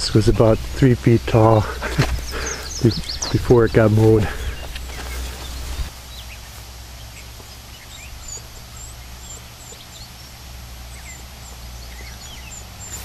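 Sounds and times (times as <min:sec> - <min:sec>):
birds chirping and calling: 0:00.0 - 0:13.0
steady low hum: 0:00.0 - 0:13.0.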